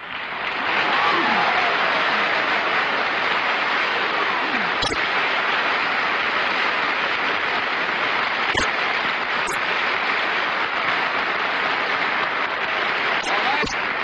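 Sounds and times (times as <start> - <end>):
audience applauding loudly: 0.0 - 14.0.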